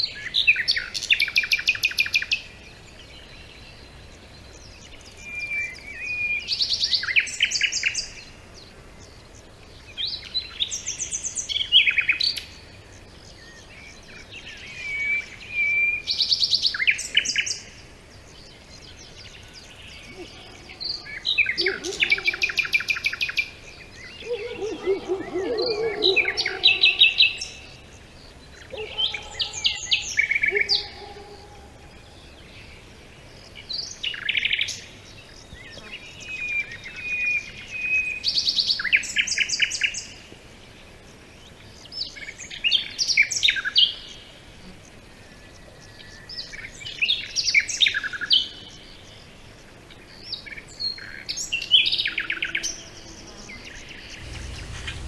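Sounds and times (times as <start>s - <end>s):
faint background hiss: 0.0s - 55.0s.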